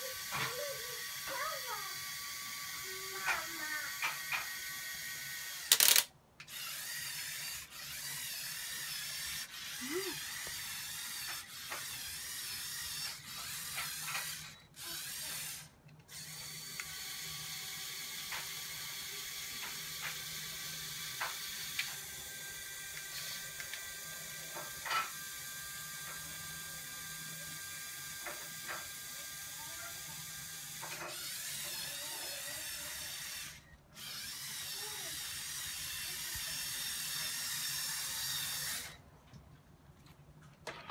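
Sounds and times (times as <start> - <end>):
small electric motors whirring: 0.0 - 39.0.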